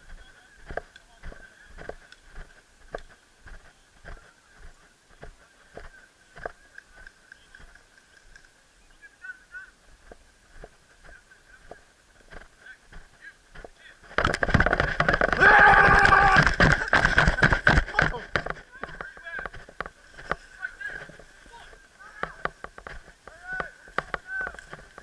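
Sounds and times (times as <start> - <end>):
footsteps through dry grass: 0.0 - 25.0.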